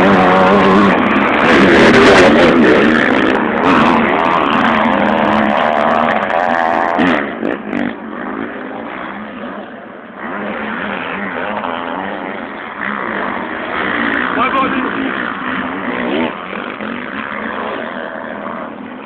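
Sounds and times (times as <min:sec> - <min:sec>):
motocross bikes revving: 0:00.0 - 0:19.0.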